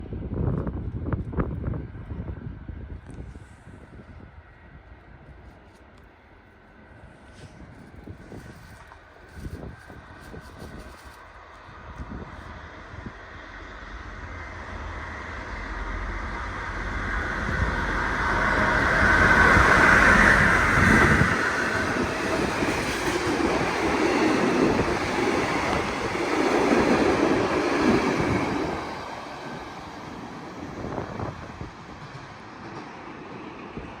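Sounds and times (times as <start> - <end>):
train passing with deep rumble: 0.0 - 34.0
train wagons rolling by: 5.2 - 34.0.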